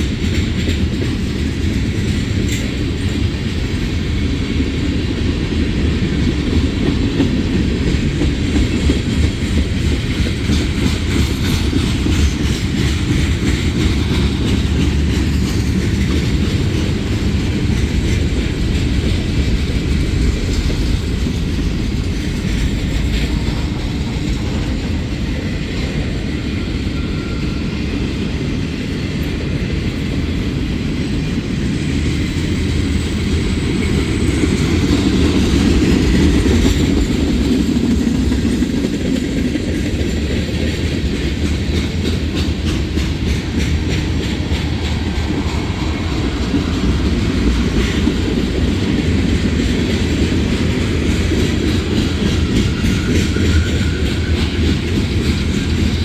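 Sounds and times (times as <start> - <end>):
freight train rumbling past: 0.0 - 56.0
wheels clacking on rail joints: 0.0 - 56.0.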